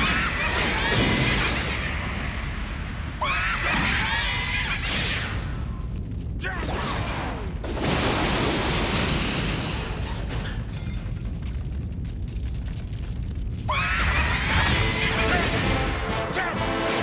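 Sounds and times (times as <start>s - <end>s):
loud explosion blast: 0.0s - 16.4s.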